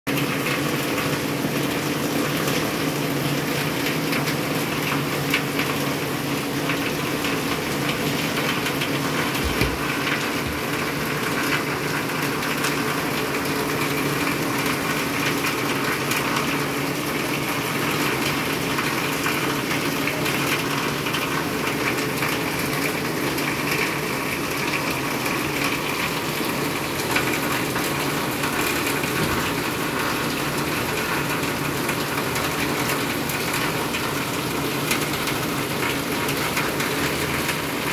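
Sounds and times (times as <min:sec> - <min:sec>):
rain on wet pavement: 0:00.1 - 0:37.9.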